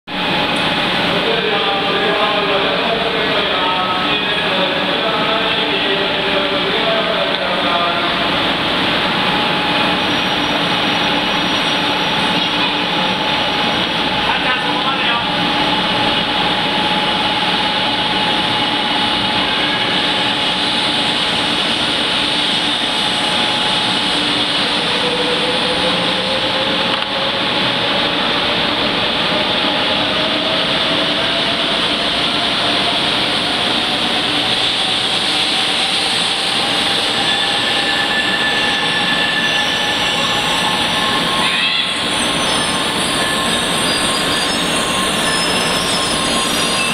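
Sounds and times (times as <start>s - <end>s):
rising train whine: 0.0s - 46.9s
train running past: 0.1s - 46.9s.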